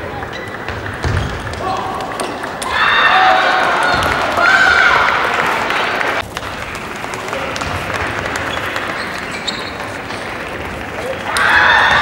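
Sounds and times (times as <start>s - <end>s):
sports hall background noise: 0.0s - 12.0s.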